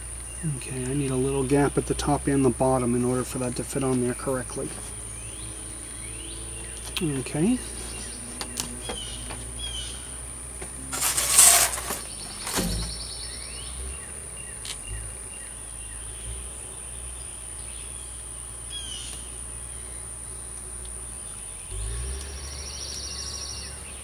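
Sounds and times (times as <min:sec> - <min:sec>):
bird chirps: 0:00.0 - 0:10.2, 0:11.7 - 0:24.0
high insect trill: 0:00.0 - 0:24.0.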